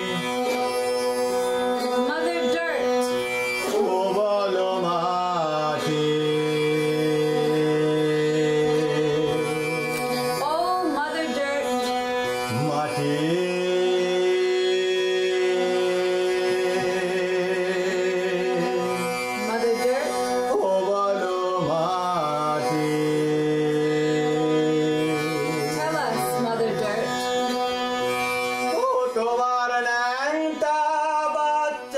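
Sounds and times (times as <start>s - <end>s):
bowed string instrument sliding: 0.0s - 31.9s
tanpura drone: 0.0s - 31.9s.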